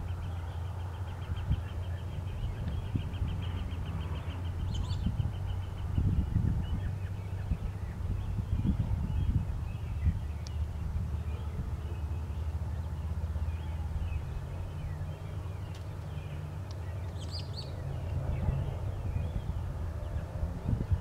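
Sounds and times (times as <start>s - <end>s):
faint birdsong: 0.0s - 21.0s
steady low rumble: 0.0s - 21.0s.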